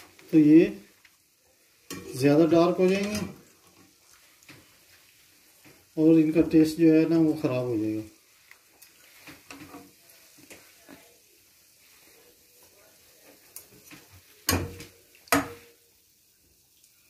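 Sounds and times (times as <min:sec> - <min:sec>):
oil crackling in pan: 0:00.0 - 0:17.0.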